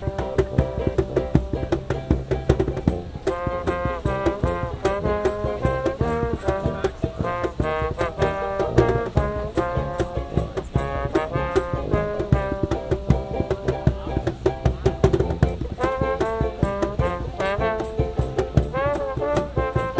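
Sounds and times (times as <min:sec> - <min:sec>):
cajon beat: 0:00.0 - 0:19.9
strummed string instrument: 0:00.0 - 0:19.9
trombone melody: 0:00.0 - 0:19.9
tuba bass line: 0:00.0 - 0:19.9.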